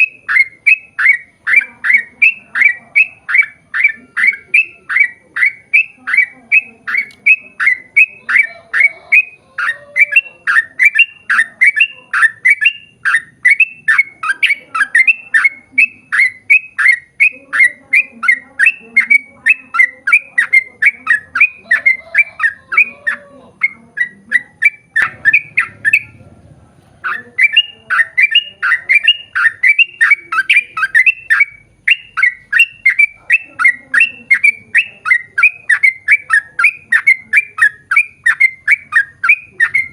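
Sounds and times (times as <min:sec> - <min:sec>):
bird chattering call: 0:00.0 - 0:26.4, 0:27.0 - 0:39.9.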